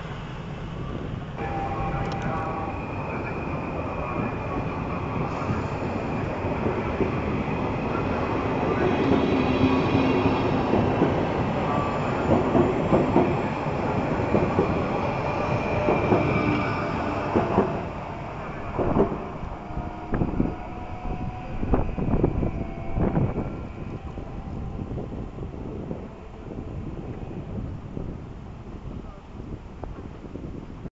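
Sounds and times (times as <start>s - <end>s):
train rolling past: 0.0s - 30.8s
wind buffeting microphone: 3.2s - 30.9s.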